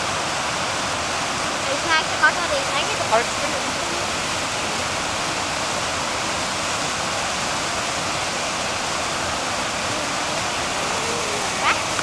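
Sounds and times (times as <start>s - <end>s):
stream cascading over rocks: 0.0s - 12.0s.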